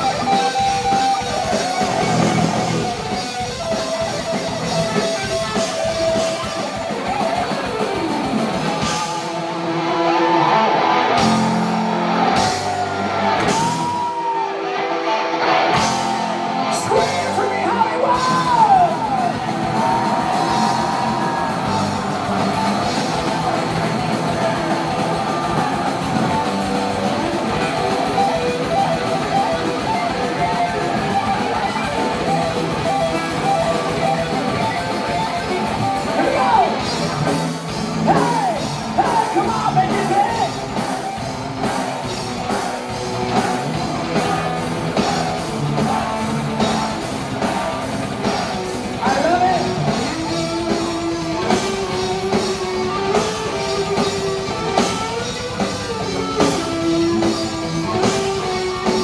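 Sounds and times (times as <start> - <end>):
metal band playing: 0.0 - 59.0.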